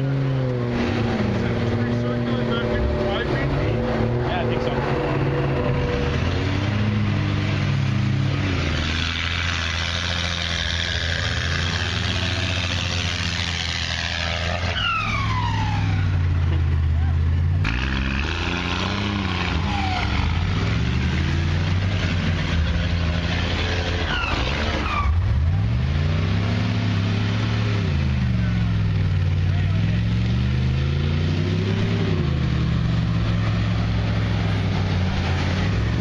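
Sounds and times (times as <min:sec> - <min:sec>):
another engine revving: 0:00.0 - 0:16.6, 0:17.6 - 0:36.0
diesel truck revving in mud: 0:00.0 - 0:36.0.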